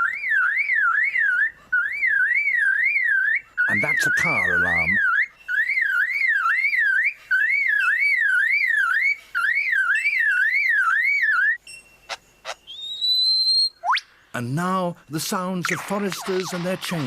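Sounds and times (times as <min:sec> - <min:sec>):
bird mimicking car alarm: 0:00.0 - 0:14.1, 0:15.6 - 0:17.0.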